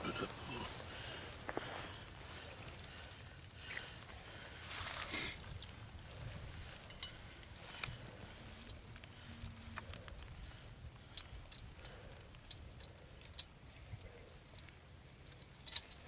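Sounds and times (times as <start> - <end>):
faint grass rustling: 0.0 - 16.0.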